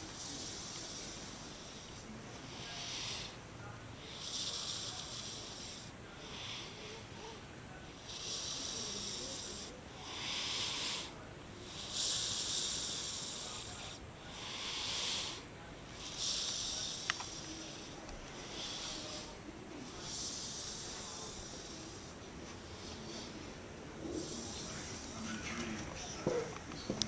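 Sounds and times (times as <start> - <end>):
baby snoring: 2.5 - 3.4, 4.0 - 26.5.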